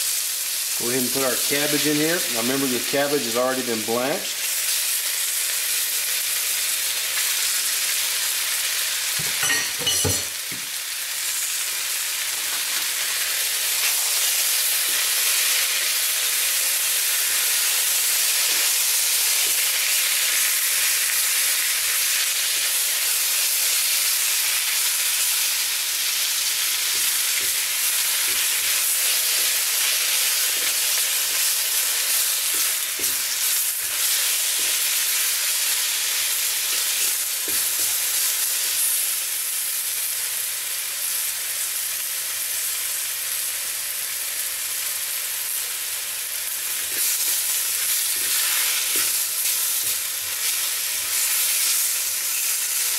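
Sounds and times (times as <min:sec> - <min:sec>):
food sizzling in a wok: 0:00.0 - 0:52.9.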